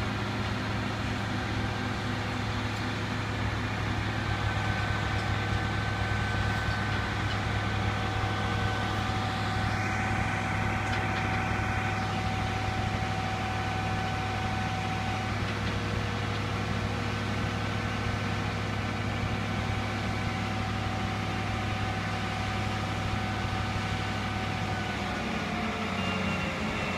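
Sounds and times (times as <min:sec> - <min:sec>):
crane diesel engine with whining tones: 0:00.0 - 0:26.9.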